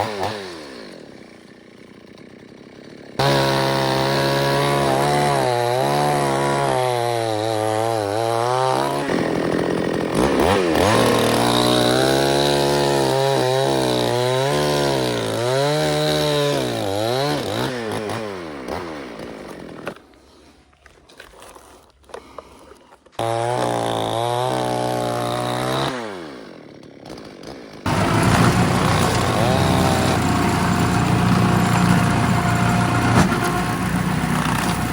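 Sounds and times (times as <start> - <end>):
chainsaw revving: 0.0 - 20.5, 21.5 - 34.9.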